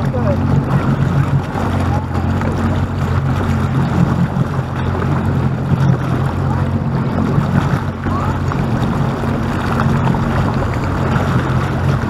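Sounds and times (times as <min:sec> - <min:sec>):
personal watercraft engine running: 0:00.0 - 0:12.0
rushing water: 0:00.0 - 0:12.0.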